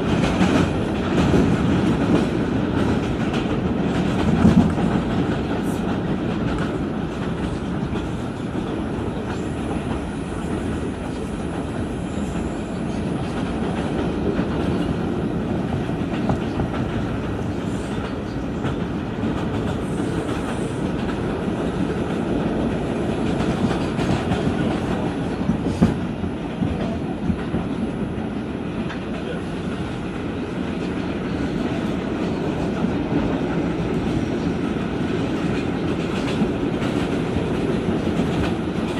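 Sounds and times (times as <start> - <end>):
clickety-clack of rail joints: 0.0 - 38.9
subway wheels rumbling on rails: 0.0 - 38.9.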